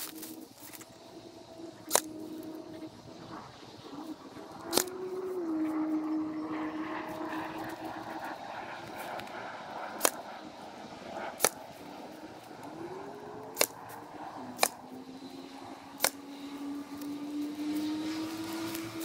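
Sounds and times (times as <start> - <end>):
background drone: 0.0 - 19.0.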